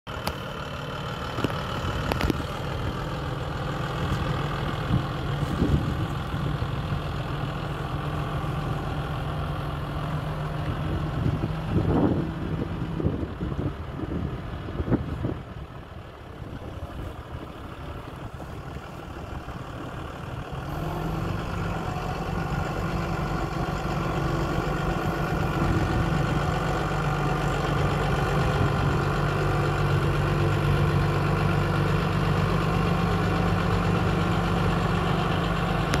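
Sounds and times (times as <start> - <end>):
tractor diesel engine idling: 0.1 - 36.0.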